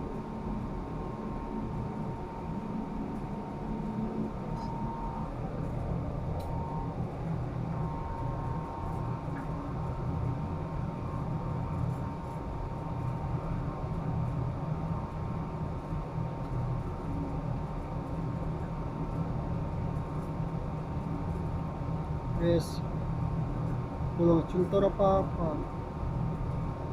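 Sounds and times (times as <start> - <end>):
high-pitched whine: 0.0 - 23.0
low machinery drone: 0.0 - 26.9.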